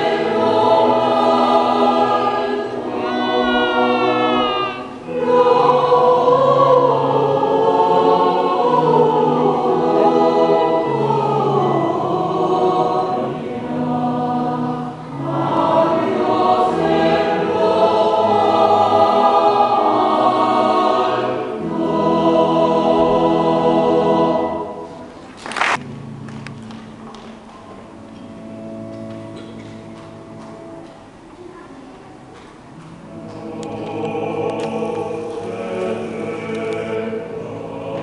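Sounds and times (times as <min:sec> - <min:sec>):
church choir singing: 0:00.0 - 0:25.8, 0:33.0 - 0:38.0.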